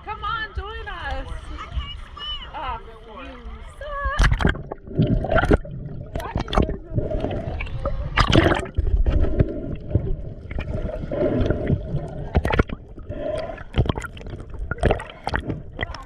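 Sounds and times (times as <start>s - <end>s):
water gurgling and sloshing: 0.0s - 16.0s
water splashes: 0.0s - 16.0s.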